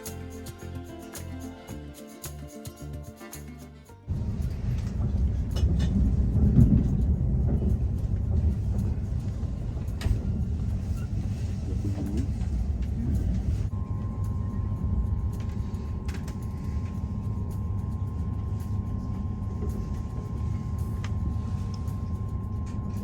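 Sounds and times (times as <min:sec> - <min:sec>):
passenger train rumbling: 0:04.0 - 0:23.0
thin steady tone: 0:04.1 - 0:23.0.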